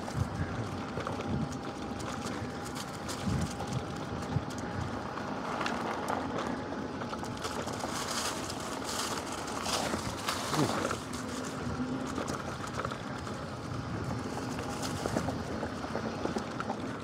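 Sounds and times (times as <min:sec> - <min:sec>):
bike tyre and frame rattle: 0:00.0 - 0:17.0
faint electric motor whine: 0:00.0 - 0:17.0.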